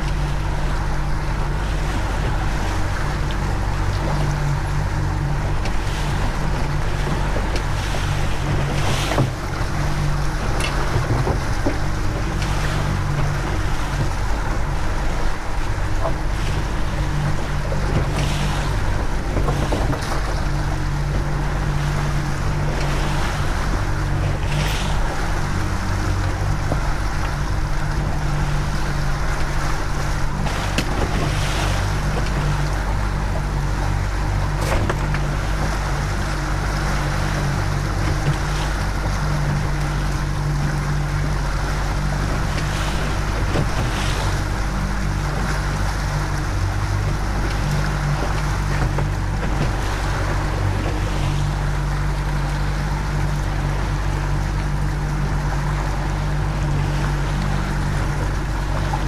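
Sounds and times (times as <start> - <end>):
outboard motor running: 0.0 - 59.0
water rushing: 0.0 - 59.0
wind on microphone: 0.0 - 59.0.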